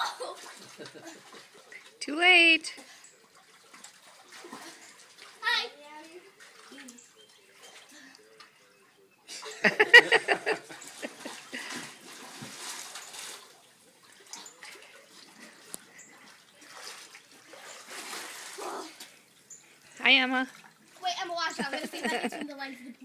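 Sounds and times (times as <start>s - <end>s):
water splashing in pool: 0.0s - 22.7s.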